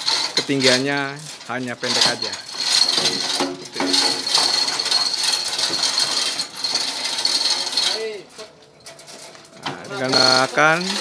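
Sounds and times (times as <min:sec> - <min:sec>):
metal chain rattling and clinking: 0:00.0 - 0:11.0.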